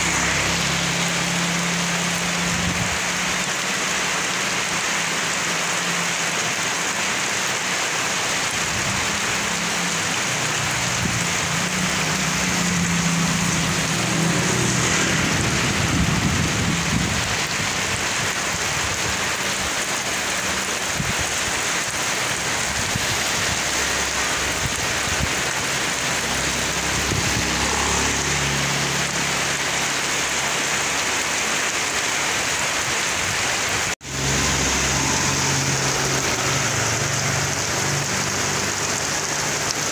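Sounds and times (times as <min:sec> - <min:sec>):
heavy rain on asphalt: 0:00.0 - 0:39.9
passing vehicles rumbling: 0:00.0 - 0:39.9.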